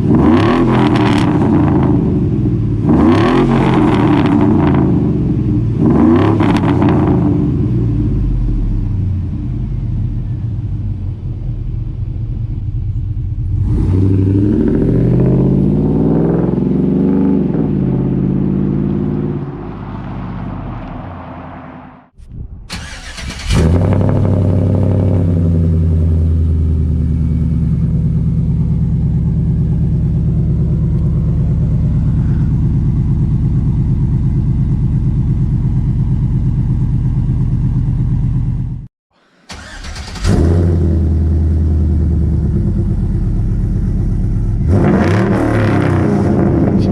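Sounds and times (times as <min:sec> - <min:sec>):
engine idling and revving: 0:00.0 - 0:38.9, 0:39.5 - 0:46.9.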